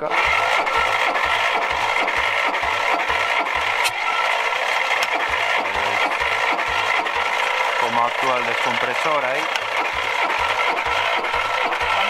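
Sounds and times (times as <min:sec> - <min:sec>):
starter cranking diesel engine: 0:00.0 - 0:12.0.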